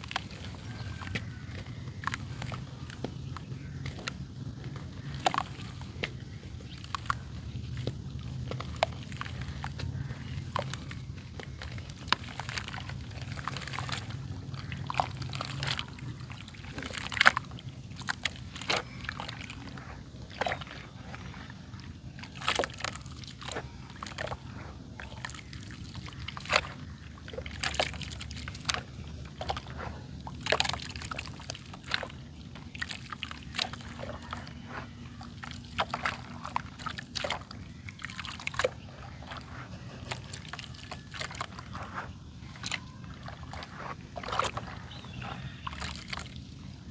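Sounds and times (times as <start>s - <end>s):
dry clay crumbling and crunching: 0.0s - 46.9s
faint low hum: 0.0s - 46.9s.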